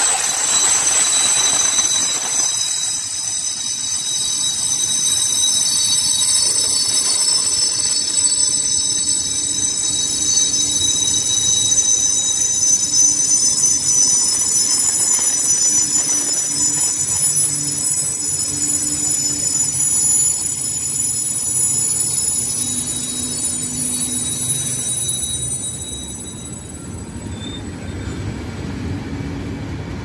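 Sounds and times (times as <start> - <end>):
high-pitched whining tones: 0.0 - 28.3
train rail rumble: 0.0 - 30.0.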